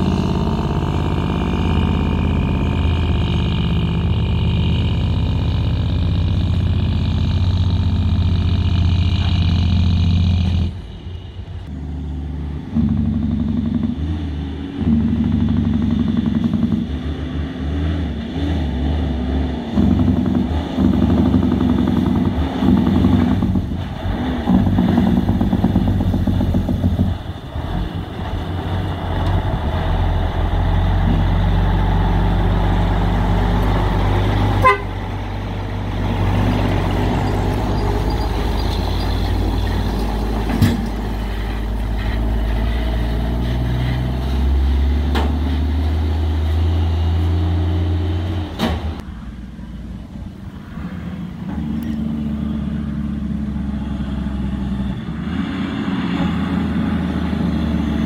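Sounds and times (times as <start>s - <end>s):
diesel truck engine passing: 0.0s - 58.0s.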